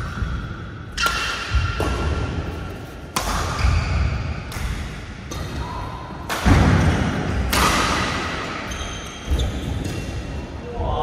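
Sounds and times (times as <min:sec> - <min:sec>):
rackets hitting shuttlecock: 0:00.0 - 0:10.4.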